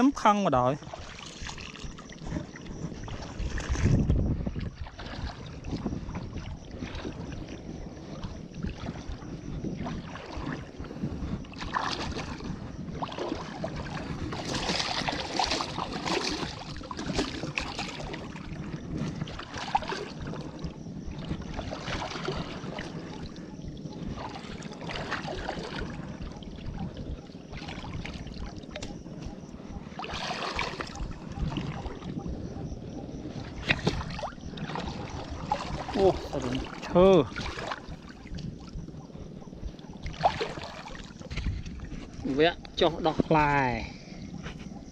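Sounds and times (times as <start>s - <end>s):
water sloshing and splashing: 0.0s - 44.9s.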